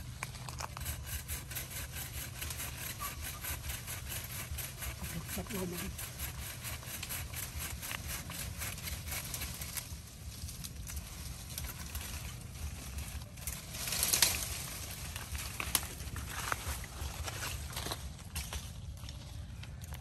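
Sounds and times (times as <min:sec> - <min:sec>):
leaves and branches rustling: 0:00.0 - 0:20.0.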